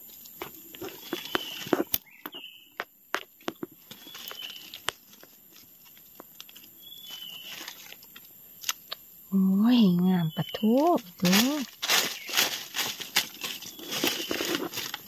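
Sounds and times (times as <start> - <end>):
dry leaves and twigs rustling: 0.0 - 15.0.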